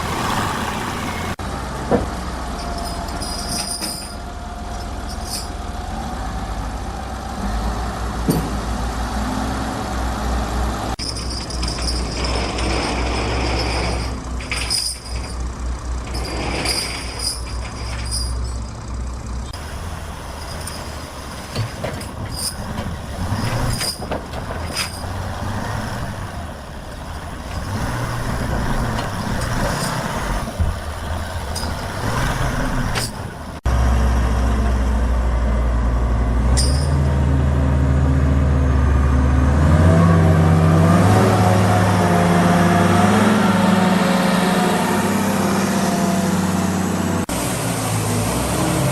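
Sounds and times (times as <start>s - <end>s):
sawmill engine hum: 0.0s - 14.6s, 18.3s - 48.9s.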